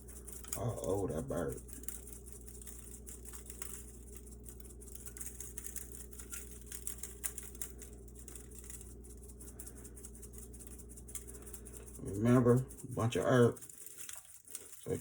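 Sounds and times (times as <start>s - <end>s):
seasoning sprinkling patter: 0.0s - 15.0s
steady low hum: 0.0s - 15.0s.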